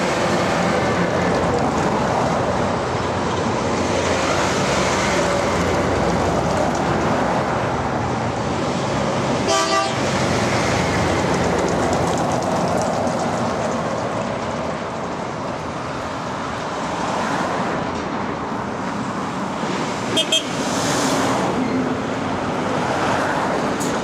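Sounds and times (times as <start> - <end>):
heavy diesel trucks passing: 0.0 - 24.0.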